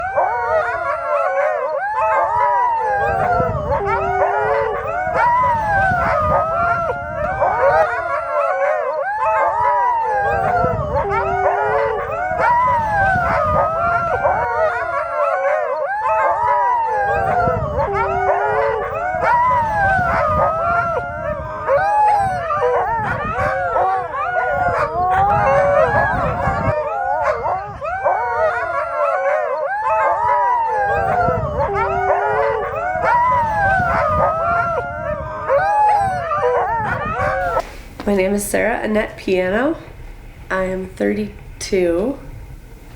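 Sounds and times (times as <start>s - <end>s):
sled dogs howling and yipping: 0.0s - 38.7s.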